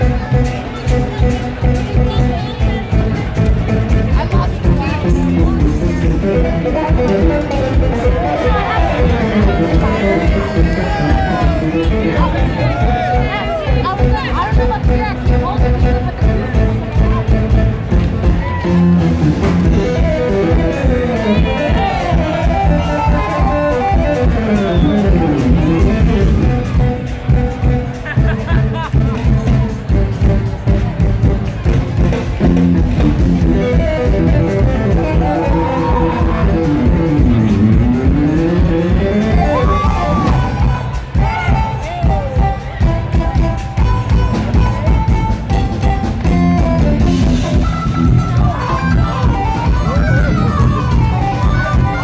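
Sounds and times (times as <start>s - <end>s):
live jazz-fusion band playing: 0.0s - 52.0s.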